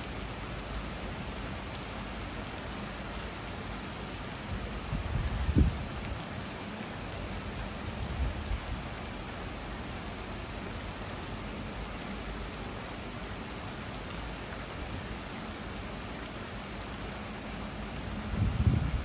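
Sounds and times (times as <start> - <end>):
steady rain on street and foliage: 0.0 - 19.0.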